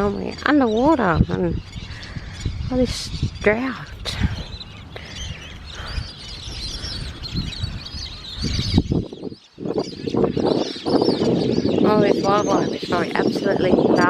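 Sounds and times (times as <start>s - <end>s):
birds chirping and twittering: 0.0s - 14.0s
wind buffeting microphone: 0.0s - 14.0s.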